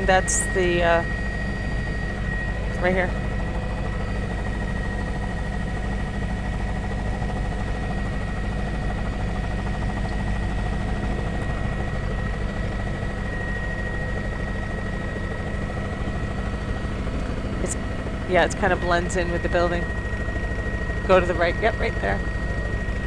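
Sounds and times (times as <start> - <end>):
high whine: 0.0 - 5.2, 7.4 - 23.0
helicopter engine and rotor drone: 0.0 - 23.0.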